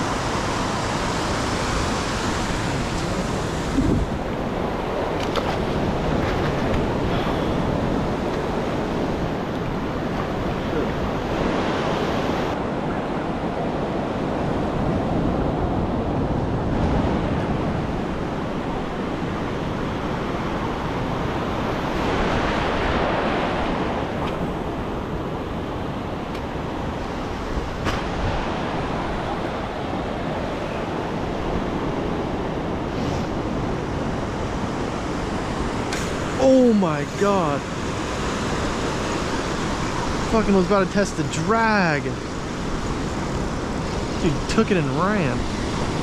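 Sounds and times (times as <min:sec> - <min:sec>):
ocean surf washing: 0:00.0 - 0:46.0
wind buffeting microphone: 0:00.0 - 0:46.0.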